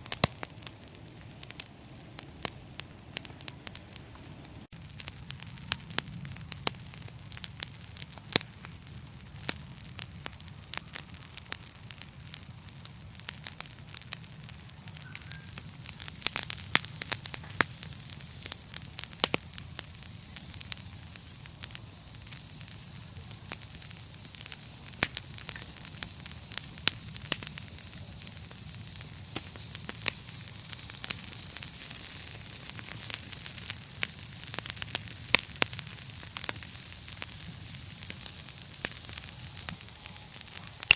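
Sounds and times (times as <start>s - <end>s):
flames hissing: 0.0s - 40.9s
wood fire crackling: 0.0s - 40.9s.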